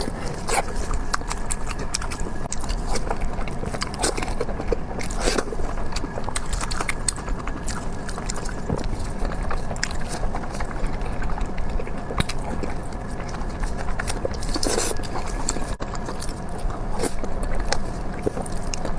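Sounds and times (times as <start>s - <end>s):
close chewing and smacking: 0.0s - 18.9s.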